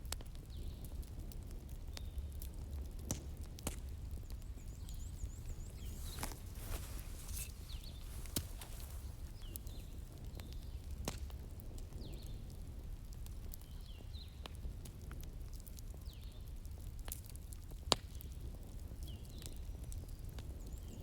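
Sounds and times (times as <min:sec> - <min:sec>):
wood fire crackling and popping: 0:00.1 - 0:20.7.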